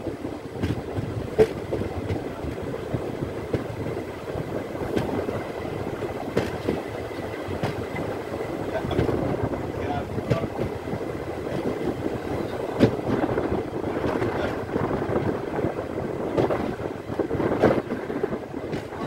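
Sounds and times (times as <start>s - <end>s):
moving train rumble: 0.0s - 19.0s
wind on microphone: 0.0s - 19.0s.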